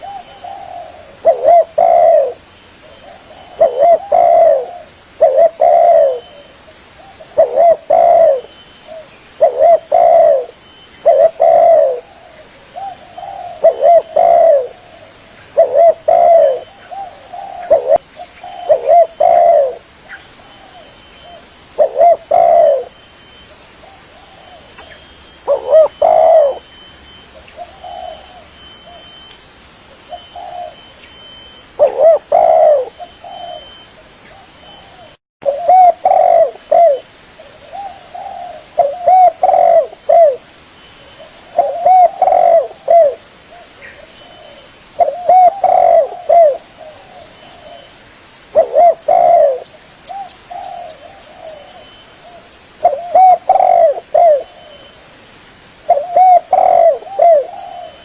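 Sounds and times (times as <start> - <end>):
dove cooing: 0.0 - 29.2, 30.0 - 40.5, 41.1 - 47.9, 48.5 - 55.0, 55.9 - 58.0.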